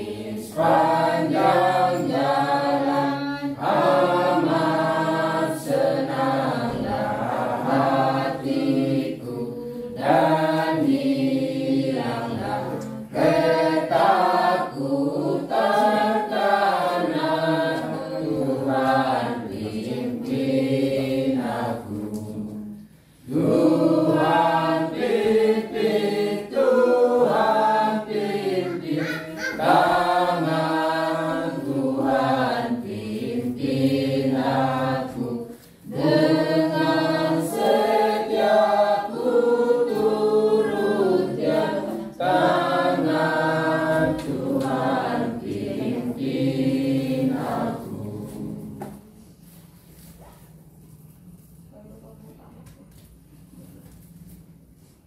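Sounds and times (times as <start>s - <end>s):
group singing a hymn: 0.0s - 50.2s.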